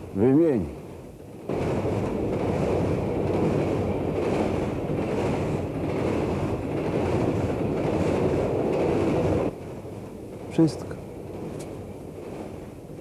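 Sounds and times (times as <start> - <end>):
low rumble: 0.0 - 13.0
rushing wind: 0.0 - 13.0.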